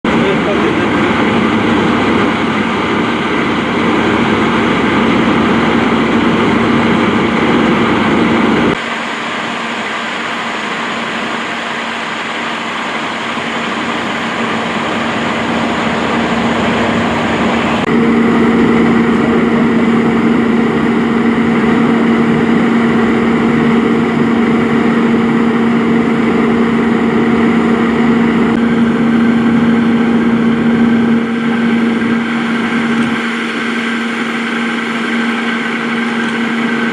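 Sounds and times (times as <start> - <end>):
heavy vehicle engine idling: 0.0 - 36.9.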